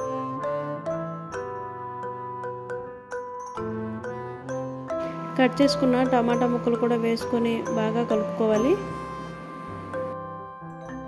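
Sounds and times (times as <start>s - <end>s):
background music held tones: 0.0s - 11.0s.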